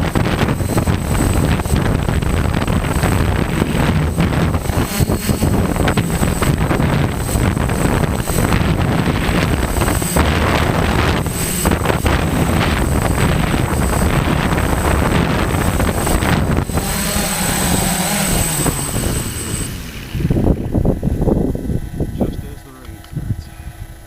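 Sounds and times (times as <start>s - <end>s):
thin high whine: 0.0s - 23.8s
drone motors and propellers: 0.0s - 24.0s
wind buffeting microphone: 0.0s - 24.0s.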